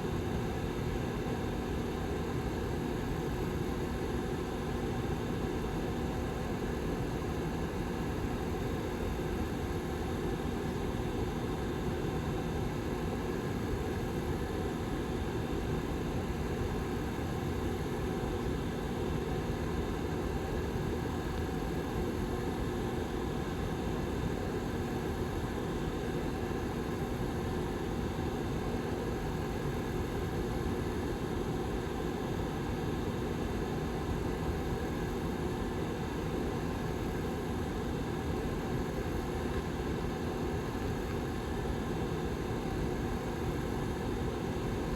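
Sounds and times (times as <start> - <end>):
heater blower fan running: 0.0 - 44.9.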